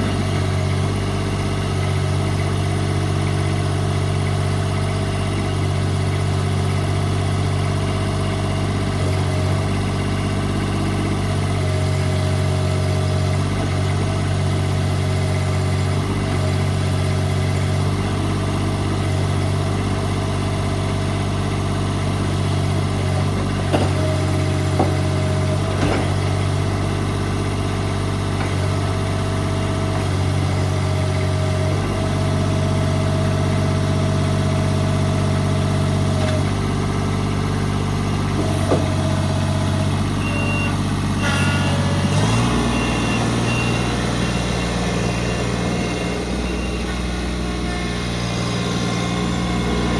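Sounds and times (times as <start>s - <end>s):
tractor diesel engine idling: 0.0s - 49.9s.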